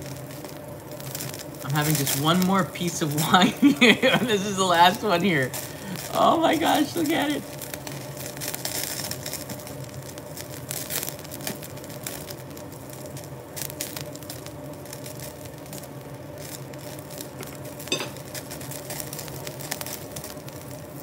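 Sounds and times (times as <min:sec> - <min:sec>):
fat crackling and popping: 0:00.0 - 0:21.0
meat sizzling on a grill: 0:00.0 - 0:21.0.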